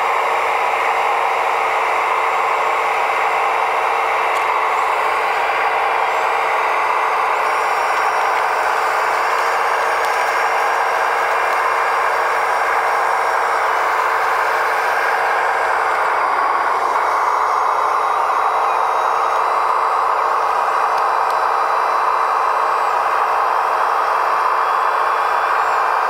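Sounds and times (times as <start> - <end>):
toy excavator motors whirring: 0.0 - 26.0.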